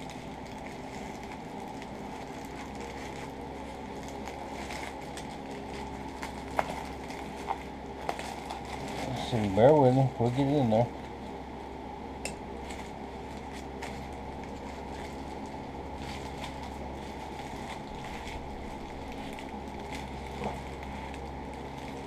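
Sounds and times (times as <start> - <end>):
foam rustling: 0.0 - 10.9, 12.6 - 22.0
steady low hum: 0.0 - 22.0.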